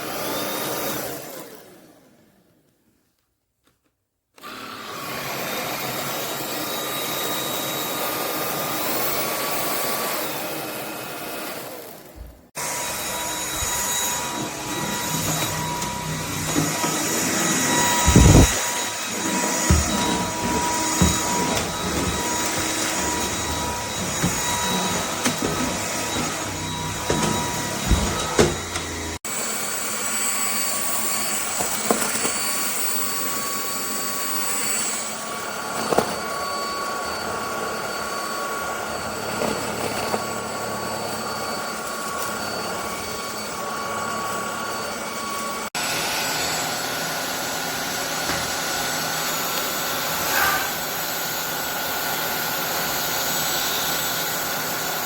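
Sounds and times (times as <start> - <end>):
stick vacuum running: 4.4 - 55.0.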